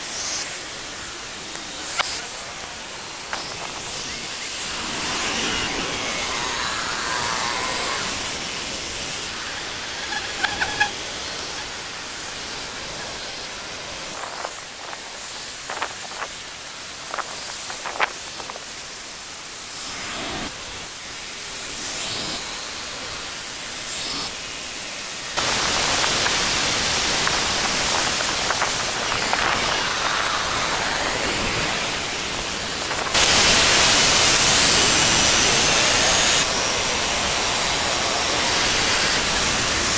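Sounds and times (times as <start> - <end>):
woodland ambience hiss: 0.0 - 39.9.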